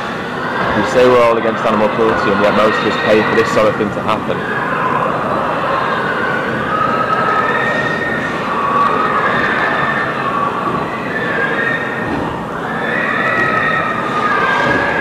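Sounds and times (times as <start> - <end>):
pigs squealing: 0.4 - 15.0.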